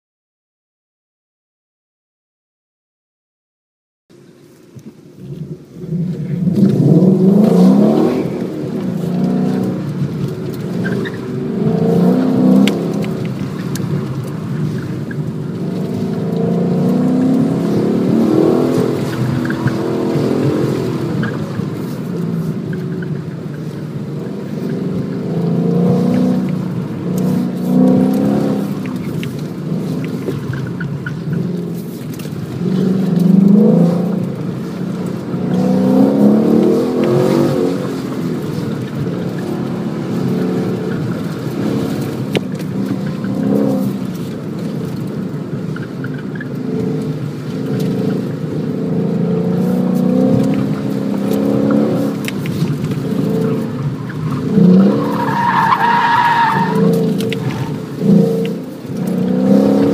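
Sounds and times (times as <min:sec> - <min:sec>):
car engine accelerating: 0:05.1 - 0:59.9.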